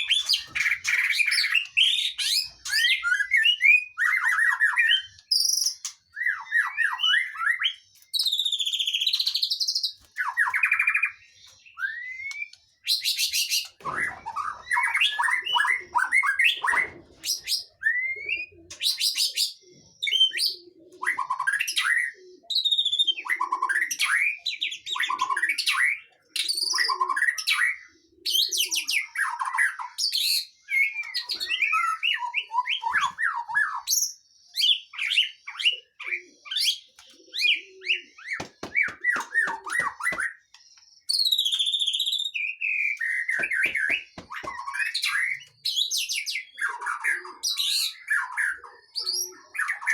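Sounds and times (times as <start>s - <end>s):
birdsong chirps and trills: 0.0s - 49.9s.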